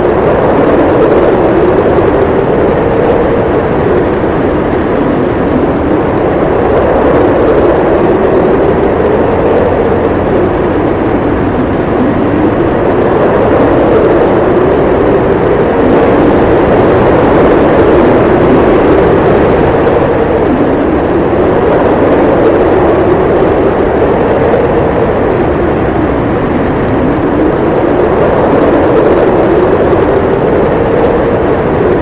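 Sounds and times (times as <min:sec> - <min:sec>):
blizzard wind howling: 0:00.0 - 0:32.0.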